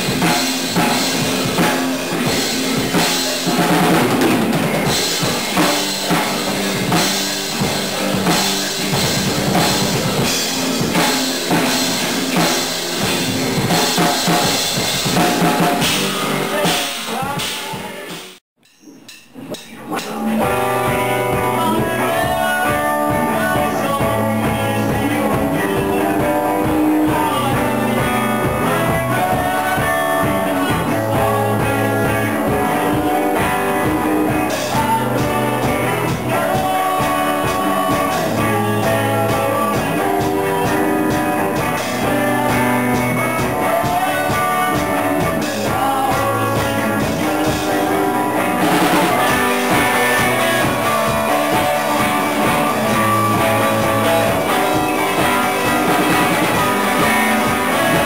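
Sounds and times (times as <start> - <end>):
electric guitars: 0.0 - 18.4, 19.5 - 58.0
person singing lead vocal: 0.0 - 18.4, 19.4 - 58.0
drum kit: 0.0 - 58.0.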